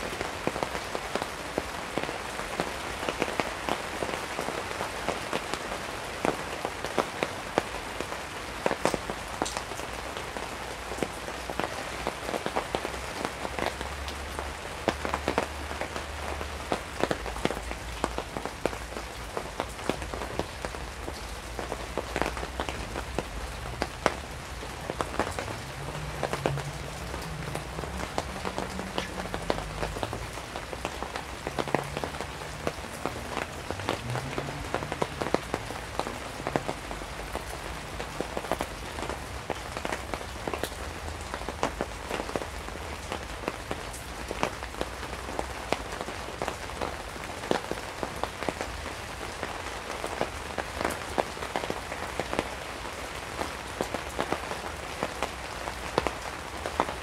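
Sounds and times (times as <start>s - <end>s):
steady rain with drop hits: 0.0s - 57.0s.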